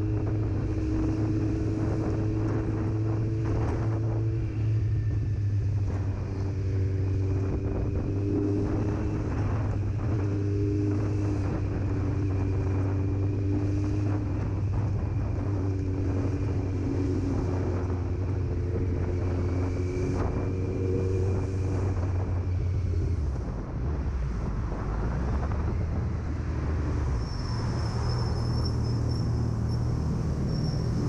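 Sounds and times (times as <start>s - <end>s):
motorcycle engine cruising: 0.0s - 31.0s
wind noise on microphone: 0.0s - 31.0s.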